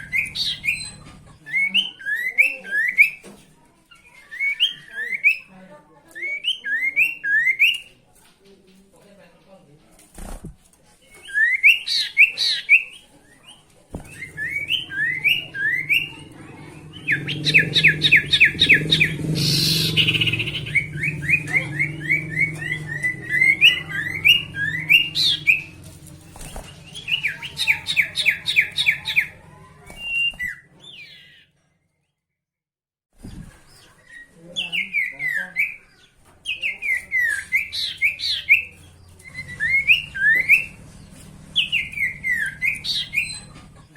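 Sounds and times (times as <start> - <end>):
songbird chirping: 0.0 - 9.0, 11.1 - 32.2, 33.3 - 43.9.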